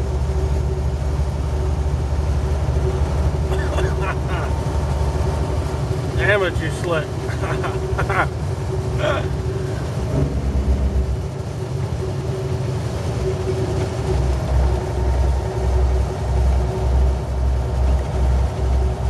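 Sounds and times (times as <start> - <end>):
low even pulsing: 0.0 - 19.0
truck diesel engine rumble: 0.0 - 19.0.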